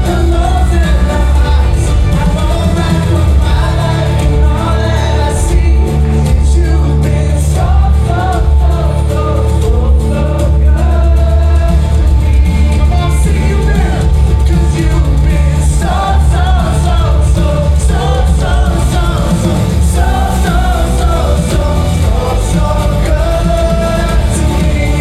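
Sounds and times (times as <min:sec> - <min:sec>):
heavy bass: 0:00.0 - 0:25.0
live worship band playing: 0:00.0 - 0:25.0
person singing: 0:00.0 - 0:25.0.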